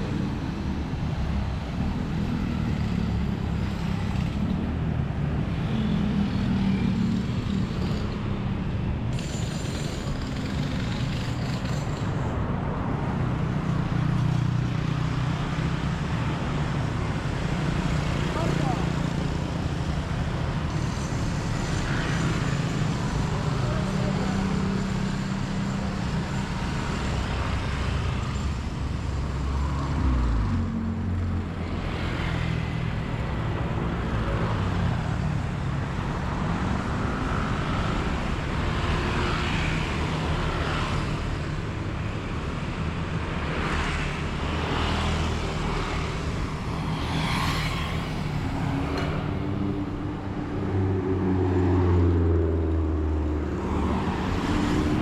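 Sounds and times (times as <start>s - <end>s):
vehicles passing close by: 0.0s - 55.0s.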